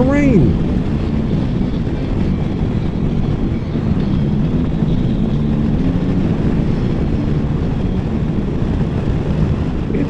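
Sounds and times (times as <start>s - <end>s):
motorcycle engine drone: 0.0s - 10.0s
wind and road noise: 0.0s - 10.0s.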